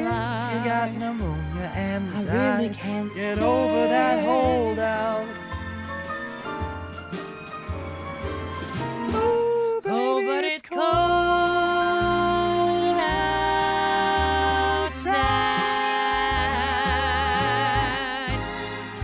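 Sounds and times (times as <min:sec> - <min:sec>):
pop vocal duet singing: 0:00.0 - 0:05.5, 0:09.2 - 0:19.0
instrumental backing: 0:00.0 - 0:19.0.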